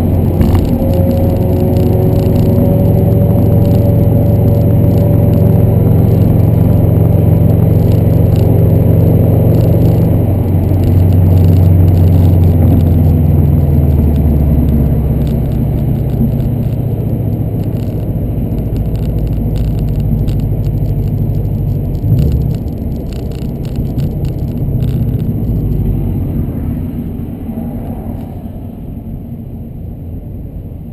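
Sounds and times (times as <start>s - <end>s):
car engine and exhaust drone: 0.0s - 30.9s.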